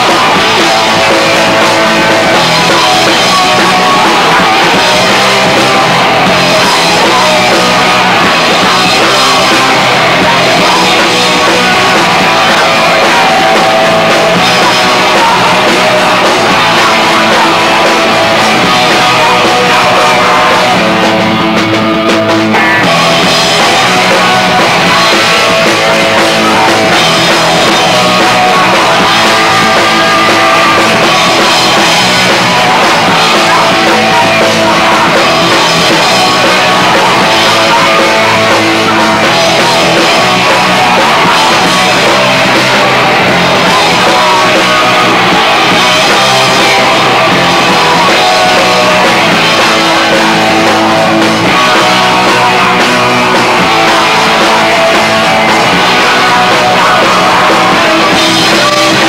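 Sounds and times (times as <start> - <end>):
punk band playing live: 0.0 - 59.0
singer shouting: 0.0 - 59.0.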